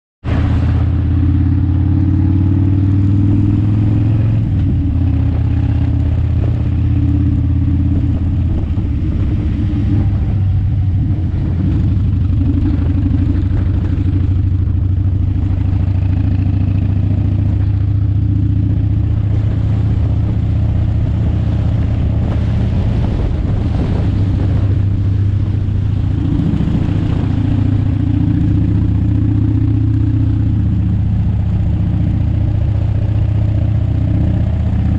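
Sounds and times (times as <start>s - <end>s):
vehicle engine droning: 0.3s - 34.9s.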